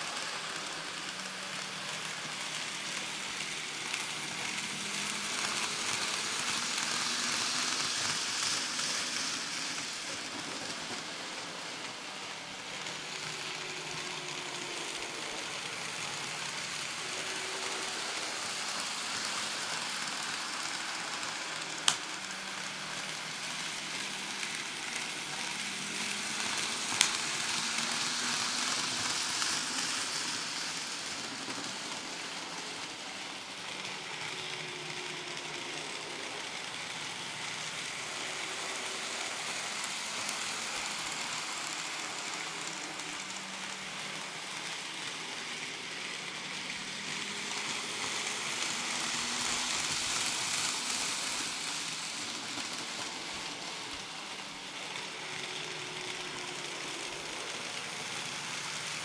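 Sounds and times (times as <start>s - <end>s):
model train motor whirring on track: 0.0s - 59.0s.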